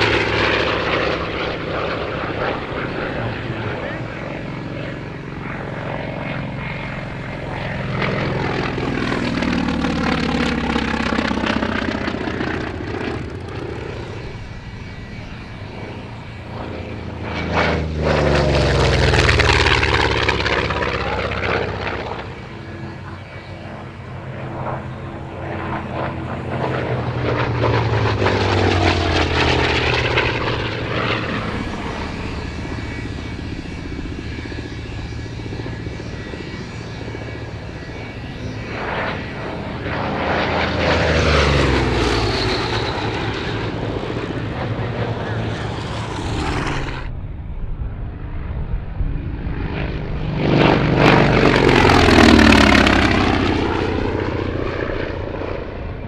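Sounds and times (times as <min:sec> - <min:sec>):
propeller planes flying by: 0:00.0 - 0:56.0.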